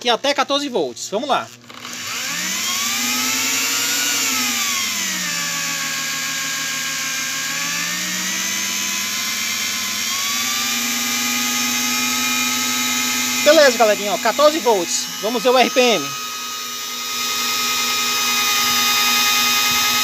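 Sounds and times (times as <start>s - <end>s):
electric drill motor whine: 1.3s - 20.0s.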